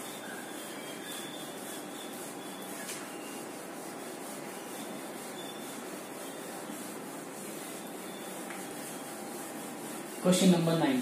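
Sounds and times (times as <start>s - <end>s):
duster rubbing on whiteboard: 0.0s - 11.0s.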